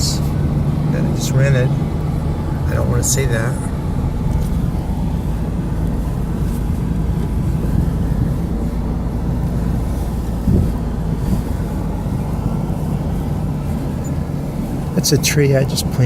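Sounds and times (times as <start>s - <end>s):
vehicle engine and road rumble: 0.0s - 16.0s
vehicle jolt: 0.0s - 16.0s.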